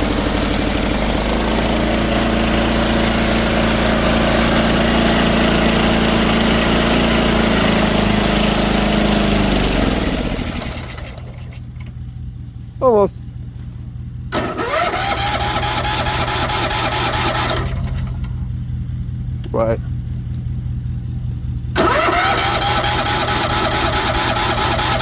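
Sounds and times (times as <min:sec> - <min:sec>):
tractor engine running and stalling: 0:00.0 - 0:12.4, 0:13.5 - 0:20.6, 0:21.7 - 0:25.0.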